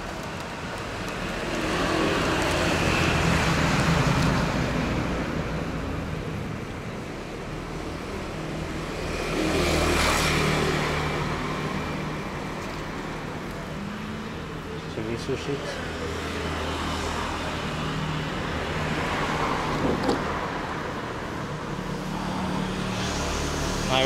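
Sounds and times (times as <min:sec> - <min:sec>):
road noise: 0:00.0 - 0:24.0
vehicles driving past: 0:00.1 - 0:24.0.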